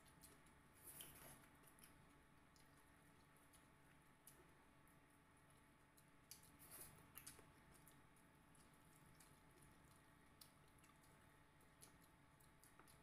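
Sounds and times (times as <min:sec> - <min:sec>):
soft mouth clicks and smacks: 0:00.0 - 0:04.6, 0:05.4 - 0:13.0
wet eating sounds: 0:00.0 - 0:13.0.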